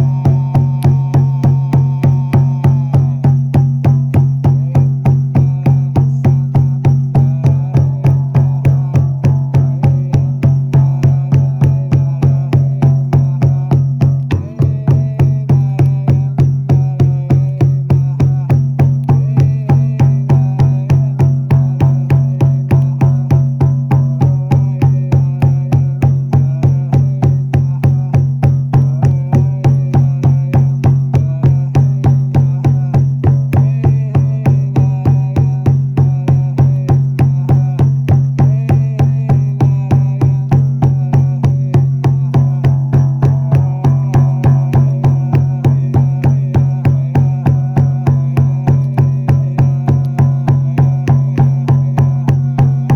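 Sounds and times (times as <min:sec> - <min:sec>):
frame drum beaten: 0:00.0 - 0:52.9.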